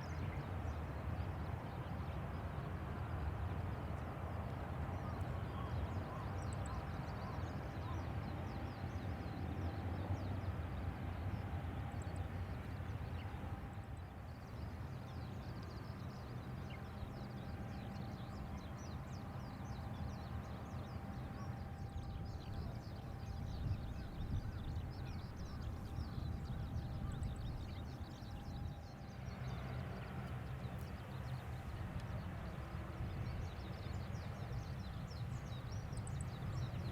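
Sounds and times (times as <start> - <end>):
birds twittering: 0.0 - 36.9
jet airliner hum and whine: 0.0 - 36.9.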